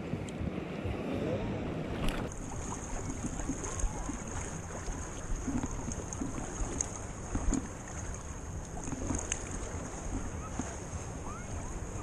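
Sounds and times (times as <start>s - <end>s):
waves lapping: 0.0s - 12.0s
wind rumbling on microphone: 0.0s - 12.0s.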